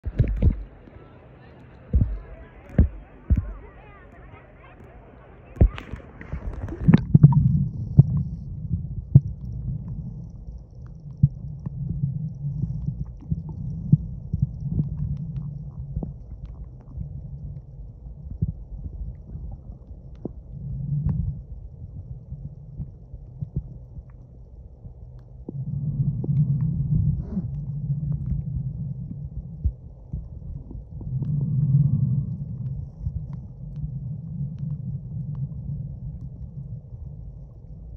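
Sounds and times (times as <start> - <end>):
underwater knocks and clicks: 0.0 - 0.9, 1.9 - 3.7, 5.6 - 37.9
muffled underwater rumble: 0.0 - 37.9.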